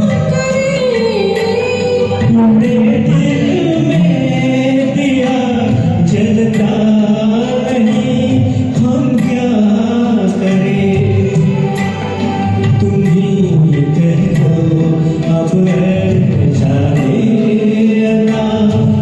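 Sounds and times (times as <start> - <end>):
karaoke backing track: 0.0 - 19.0
person singing: 0.0 - 19.0.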